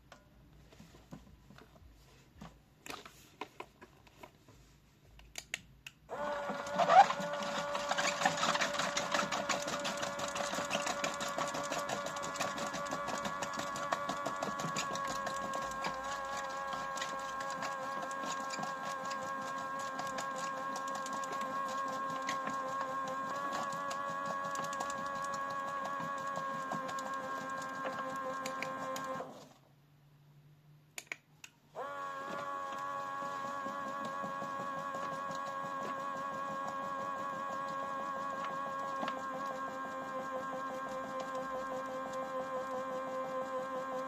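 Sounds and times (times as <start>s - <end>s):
small electric motor whining: 6.1s - 29.5s, 31.8s - 44.0s.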